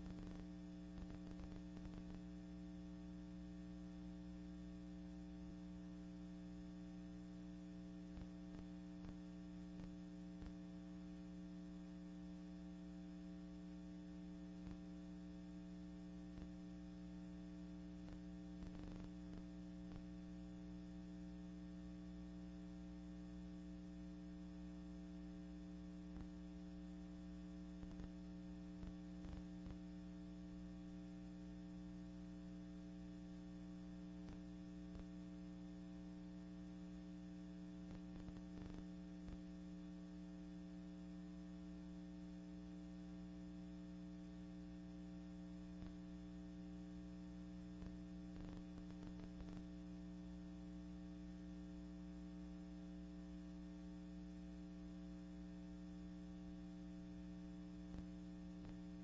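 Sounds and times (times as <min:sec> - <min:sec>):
faint mains hum: 0:00.0 - 0:59.0.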